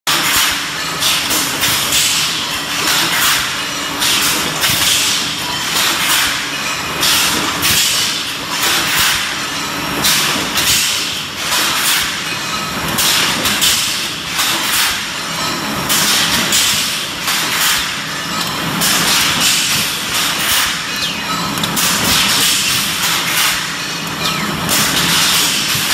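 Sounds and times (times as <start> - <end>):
machine clattering: 0.1 - 25.9.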